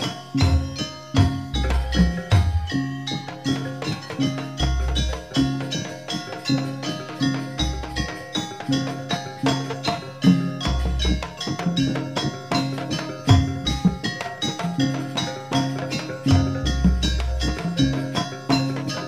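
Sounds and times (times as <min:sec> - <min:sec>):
amplified gamelan music: 0:00.0 - 0:19.0.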